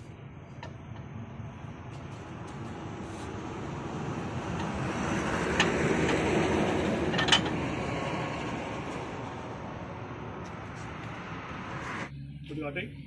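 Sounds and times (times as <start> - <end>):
vehicle passing: 0.0 - 12.5.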